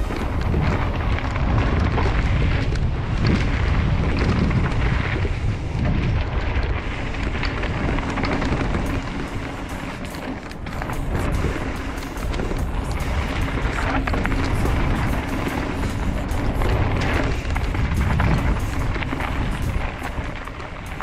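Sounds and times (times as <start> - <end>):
bike clicks and rattles: 0.0 - 21.0
bike tyres rumbling over dirt: 0.0 - 21.0
wind buffeting microphone: 0.0 - 21.0.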